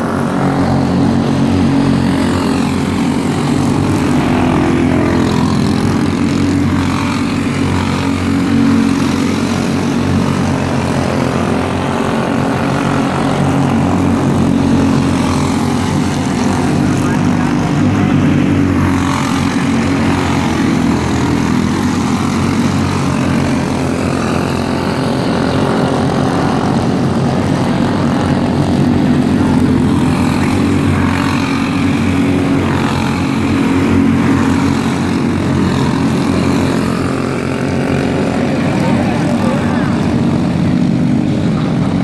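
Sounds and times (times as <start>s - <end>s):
kart engines buzzing: 0.0s - 42.0s.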